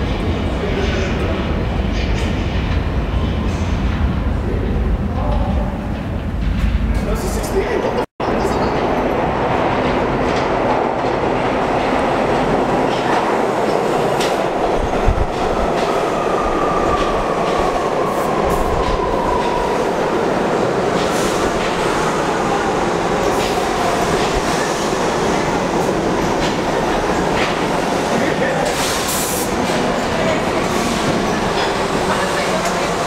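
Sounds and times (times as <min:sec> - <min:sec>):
subway train rumbling: 0:00.0 - 0:33.0.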